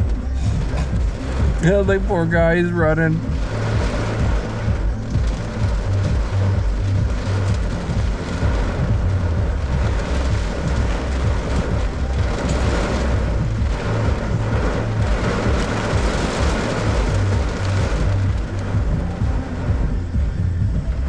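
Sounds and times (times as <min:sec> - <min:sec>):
heavy pouring rain: 0:00.0 - 0:21.0
low rumble: 0:00.0 - 0:21.0.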